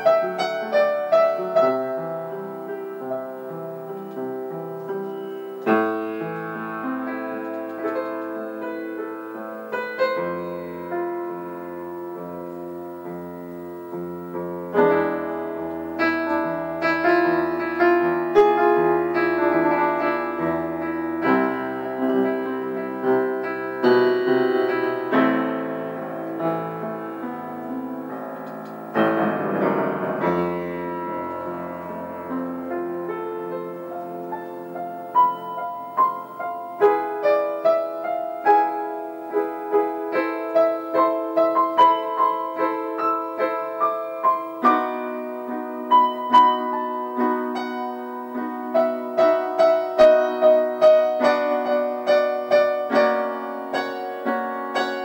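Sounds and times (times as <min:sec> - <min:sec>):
slow solo piano: 0:00.0 - 0:55.0.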